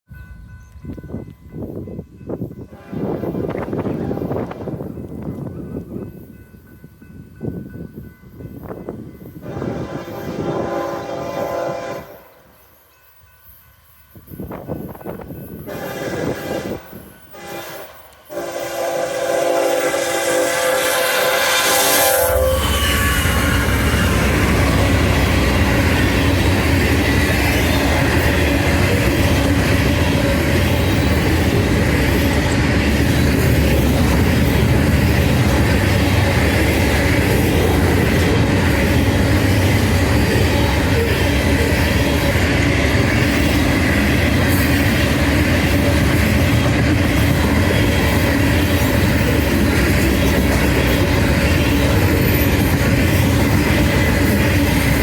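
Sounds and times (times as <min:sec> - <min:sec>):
train wheels rumbling on rails: 0:00.1 - 0:55.0.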